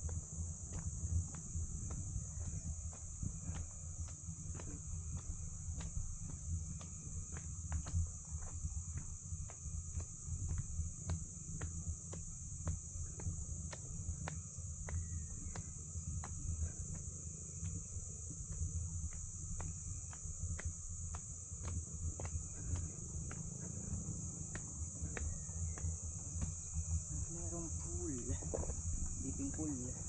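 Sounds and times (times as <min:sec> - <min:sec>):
footsteps on dirt and stone: 0:00.0 - 0:30.0
high-pitched insect chorus: 0:00.0 - 0:30.0.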